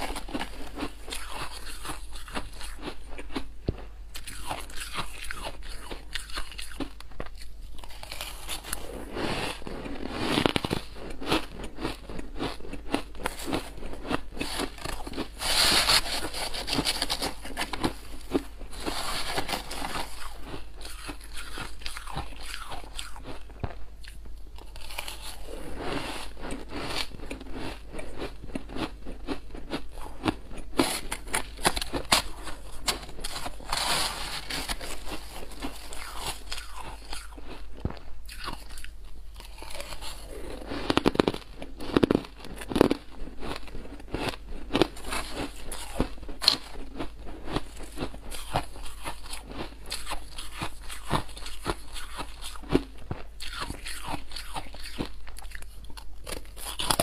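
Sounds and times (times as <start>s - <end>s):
chewing crunchy ice: 0.0s - 57.0s.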